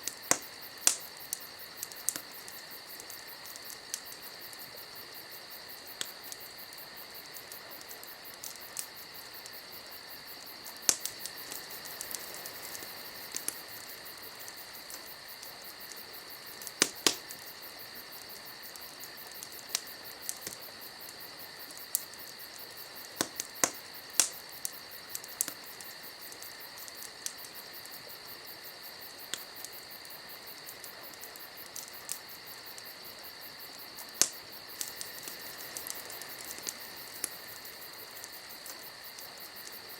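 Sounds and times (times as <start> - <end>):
fire pops: 0.0 - 39.9
wood fire crackling: 0.0 - 39.9.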